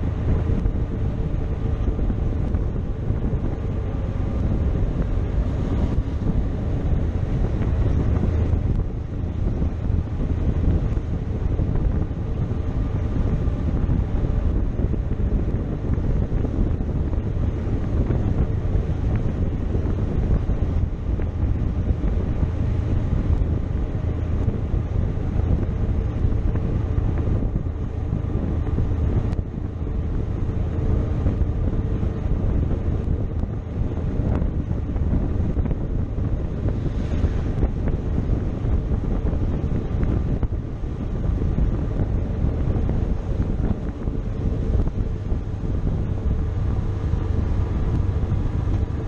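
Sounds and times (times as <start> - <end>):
wind rushing over microphone: 0.0 - 49.0.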